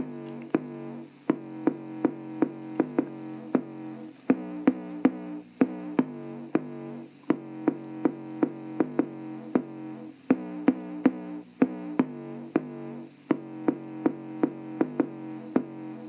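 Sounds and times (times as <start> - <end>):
electronic music through small speaker: 0.0 - 16.0.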